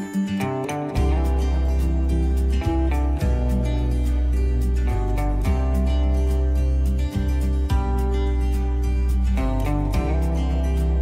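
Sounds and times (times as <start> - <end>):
held chords: 0.0 - 11.0
deep sustained bass note: 1.0 - 11.0.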